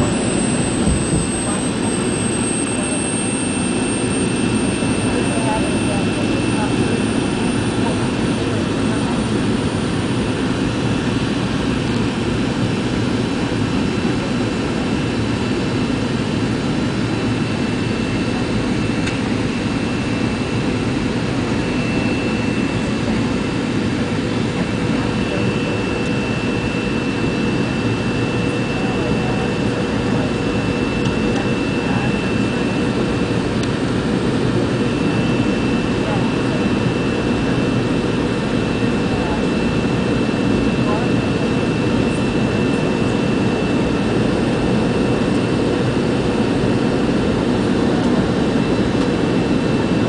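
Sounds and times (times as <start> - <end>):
airliner cabin noise during climb: 0.0 - 50.0.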